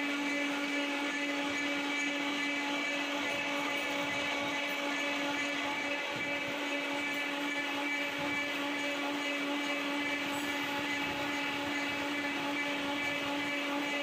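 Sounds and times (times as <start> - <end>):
milling machine cutting metal: 0.0 - 14.0.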